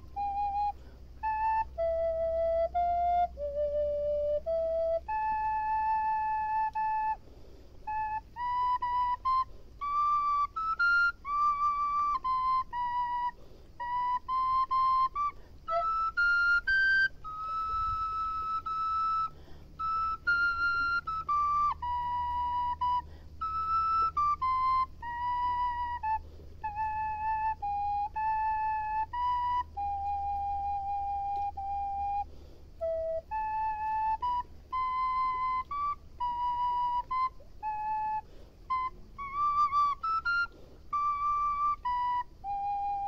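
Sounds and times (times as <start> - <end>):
slow wind instrument melody: 0.0 - 43.0.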